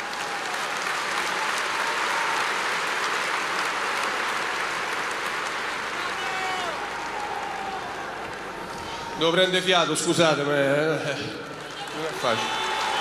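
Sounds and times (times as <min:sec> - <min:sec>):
stadium crowd applauding: 0:00.0 - 0:13.0.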